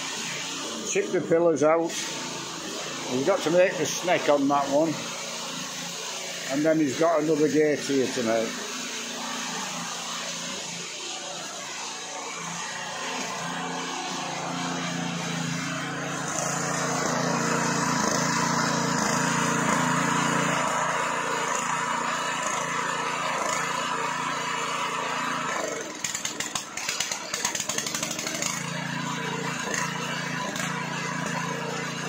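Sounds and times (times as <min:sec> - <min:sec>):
small petrol engine running: 0:00.0 - 0:32.0.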